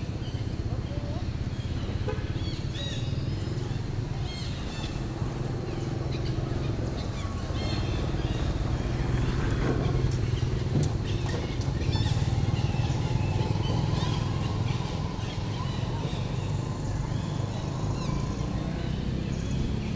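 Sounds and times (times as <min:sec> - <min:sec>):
engine droning: 0:00.0 - 0:19.9.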